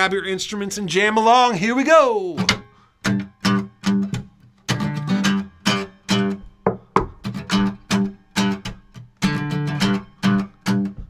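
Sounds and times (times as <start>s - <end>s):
guitar strumming: 1.9s - 11.0s.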